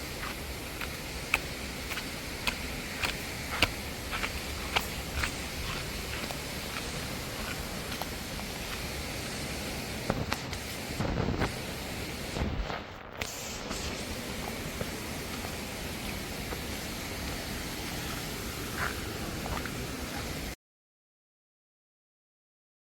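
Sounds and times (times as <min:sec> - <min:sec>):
waterfall rushing: 0:00.0 - 0:12.5, 0:13.4 - 0:20.6.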